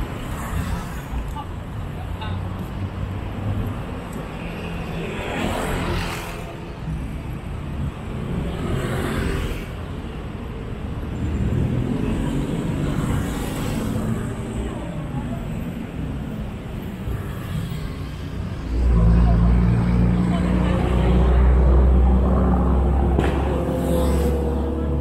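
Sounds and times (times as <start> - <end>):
traffic engine rumble: 0.0 - 25.0
vehicles passing close by: 0.0 - 25.0.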